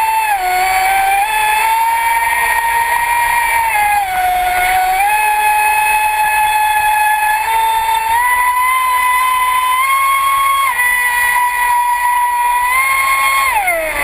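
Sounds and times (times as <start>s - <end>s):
electric motor whining: 0.0s - 14.0s
water noise: 0.0s - 14.0s.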